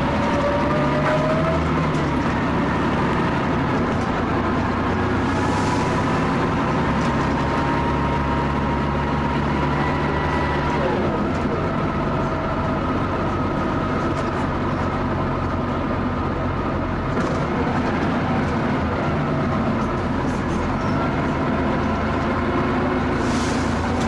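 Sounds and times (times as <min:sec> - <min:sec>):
diesel bus engine droning: 0:00.0 - 0:24.0.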